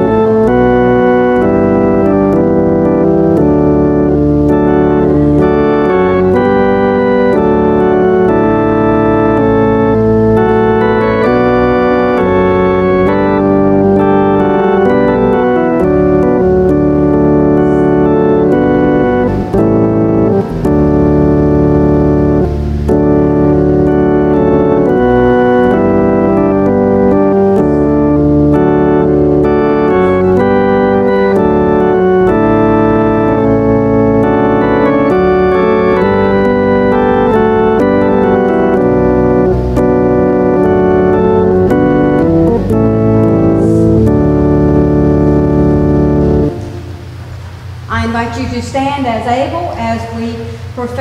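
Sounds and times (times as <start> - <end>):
church organ playing a hymn: 0.0 - 47.8.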